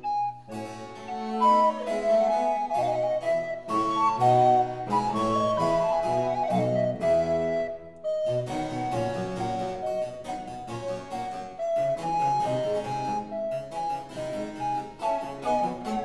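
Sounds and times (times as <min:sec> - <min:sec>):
instrumental keyboard music: 0:00.0 - 0:16.0.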